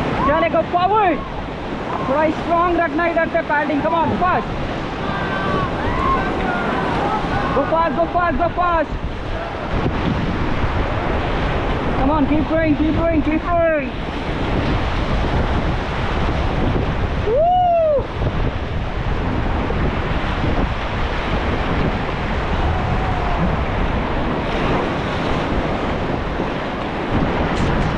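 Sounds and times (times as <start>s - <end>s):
white water rushing: 0.0s - 27.9s
wind buffeting microphone: 0.0s - 27.9s.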